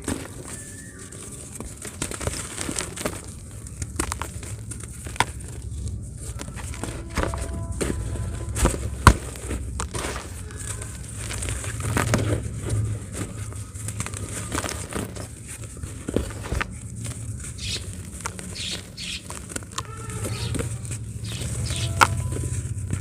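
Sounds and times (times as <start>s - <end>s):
dry cement crumbling and crackling: 0.0s - 23.0s.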